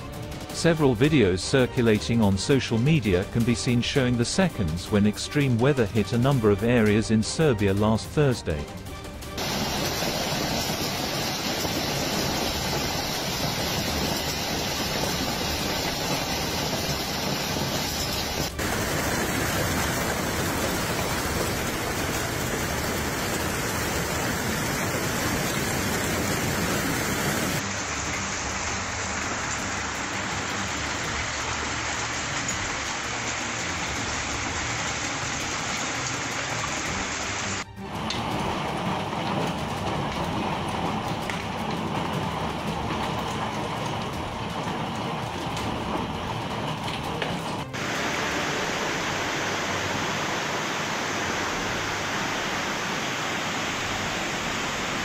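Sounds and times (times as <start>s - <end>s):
hail and heavy rain: 9.4s - 55.0s.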